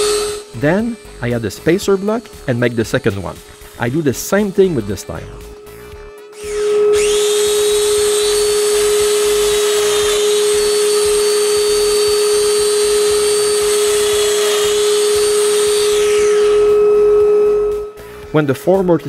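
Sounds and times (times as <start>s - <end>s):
power tool motor whine: 0.0s - 18.3s.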